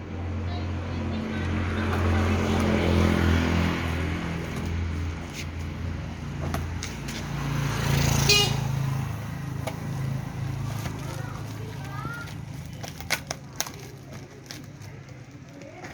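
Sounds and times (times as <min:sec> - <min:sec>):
vehicle engine running: 0:00.0 - 0:13.6.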